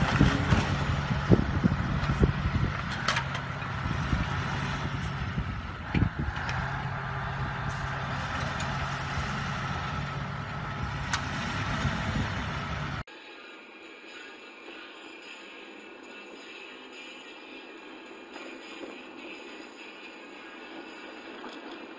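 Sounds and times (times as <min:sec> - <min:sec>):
truck engine and road noise: 0:00.0 - 0:21.9.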